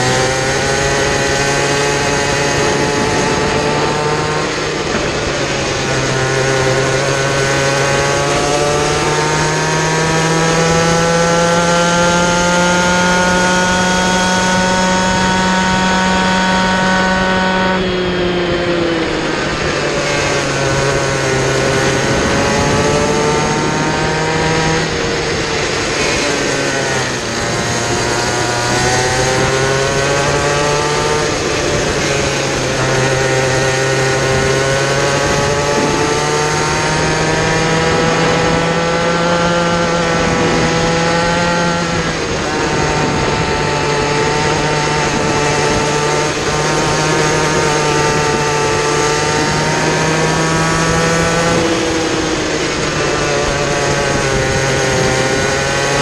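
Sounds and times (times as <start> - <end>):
small kart engine revving: 0.0 - 56.0
wind and road noise: 0.0 - 56.0.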